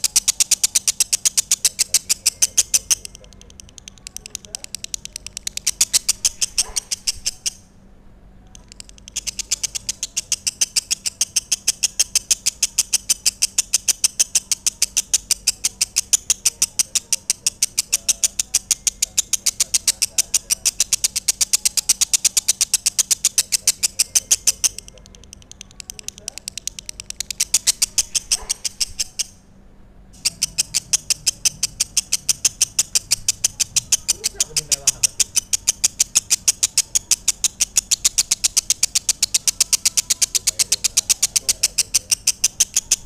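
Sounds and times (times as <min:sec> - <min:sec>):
bird high-pitched chirps: 0:00.0 - 0:07.8, 0:08.5 - 0:29.5, 0:30.2 - 0:43.0.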